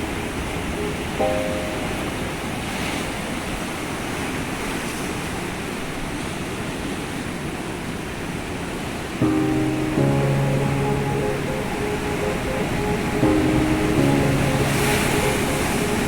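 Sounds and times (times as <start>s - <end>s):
waves breaking: 0.0s - 16.0s.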